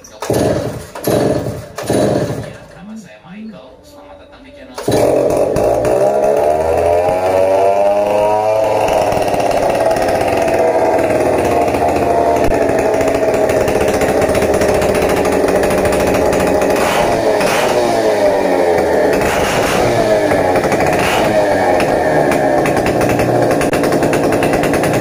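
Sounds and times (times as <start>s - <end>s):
chainsaw revving: 0.0s - 2.8s, 4.8s - 25.0s.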